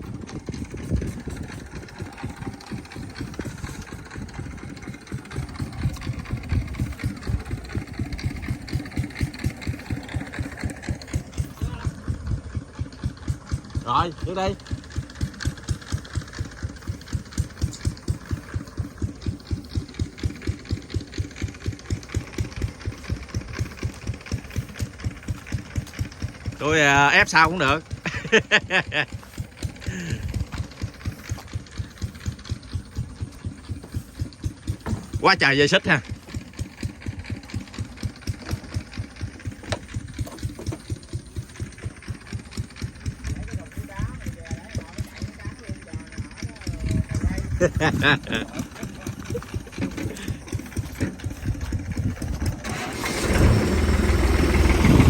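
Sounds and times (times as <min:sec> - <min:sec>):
tractor diesel engine chugging: 0:00.0 - 0:55.0.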